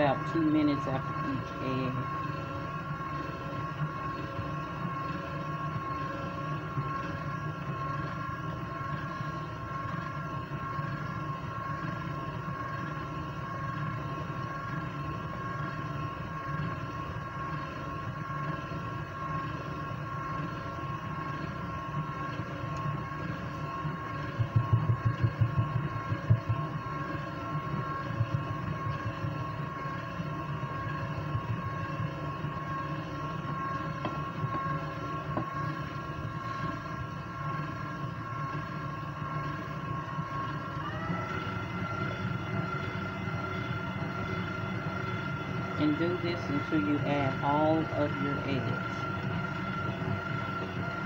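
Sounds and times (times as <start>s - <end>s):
stand mixer motor whine: 0.0s - 51.0s.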